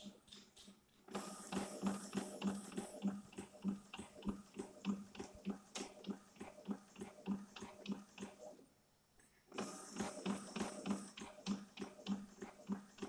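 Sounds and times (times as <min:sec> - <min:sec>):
printer carriage ticking: 0:00.0 - 0:08.4, 0:09.6 - 0:13.0
printer humming: 0:01.1 - 0:08.5, 0:09.5 - 0:13.0.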